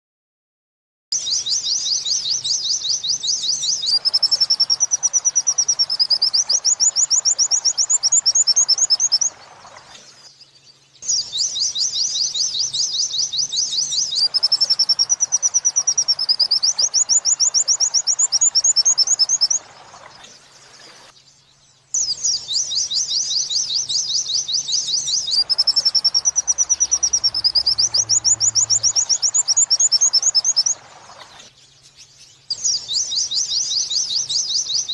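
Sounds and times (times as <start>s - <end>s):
bird chattering and whistling: 1.2s - 9.4s, 11.0s - 21.1s, 22.0s - 31.5s, 32.4s - 34.9s.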